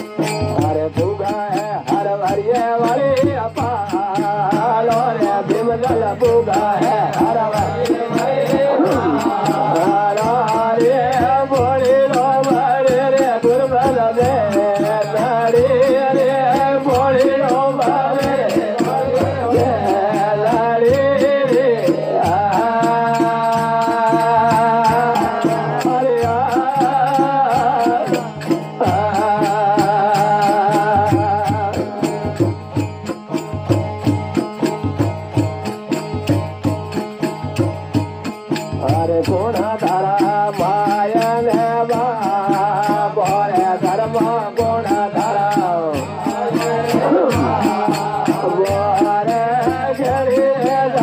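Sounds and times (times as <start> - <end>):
man singing ornamented melody: 0.0 - 35.1, 38.5 - 51.0
instrumental accompaniment with beat: 0.0 - 51.0.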